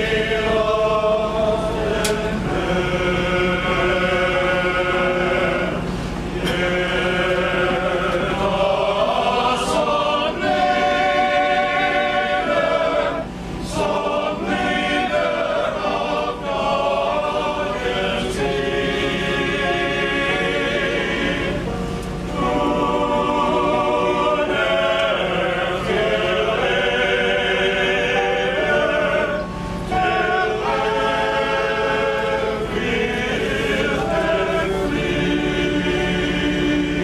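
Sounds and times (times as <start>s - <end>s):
male chorus singing: 0.0s - 37.0s.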